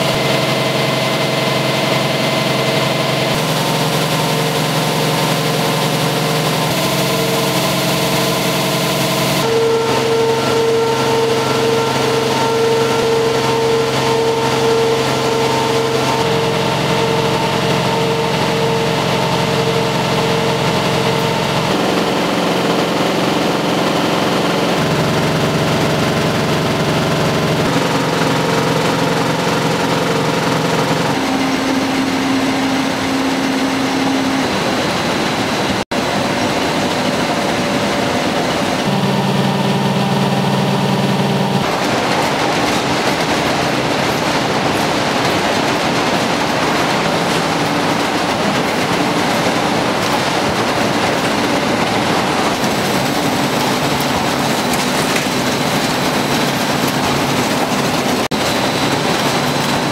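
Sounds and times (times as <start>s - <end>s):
printing press mechanical drone: 0.0s - 59.9s.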